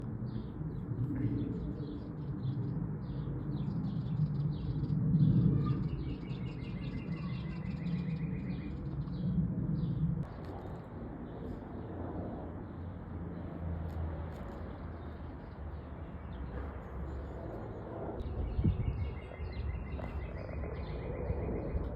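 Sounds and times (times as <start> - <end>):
birds chirping: 0.0 - 21.9
steady low rumble: 0.0 - 21.9.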